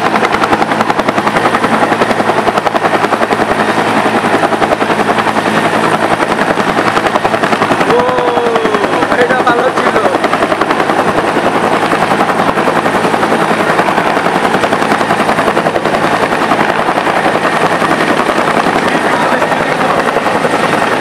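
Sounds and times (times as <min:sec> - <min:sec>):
helicopter rotor chopping: 0:00.0 - 0:21.0.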